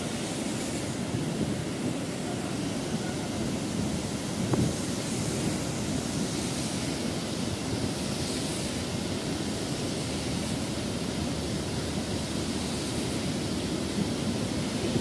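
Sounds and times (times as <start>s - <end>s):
water rushing over weir: 0.0s - 15.0s.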